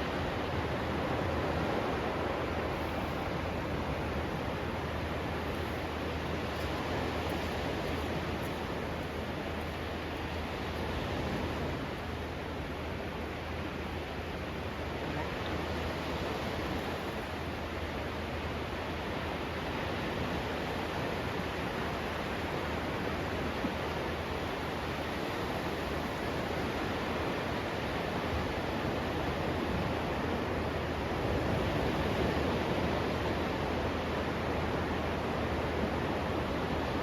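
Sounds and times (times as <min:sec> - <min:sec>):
surf rushing along beach: 0:00.0 - 0:37.0.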